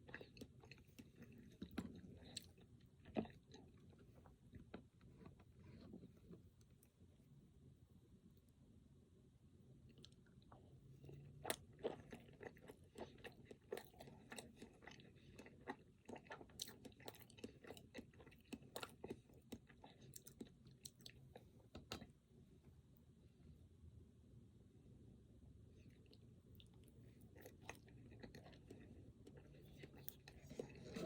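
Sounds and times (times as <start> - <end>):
person chewing snack cake: 0.0 - 7.2, 9.8 - 22.2, 25.7 - 31.0.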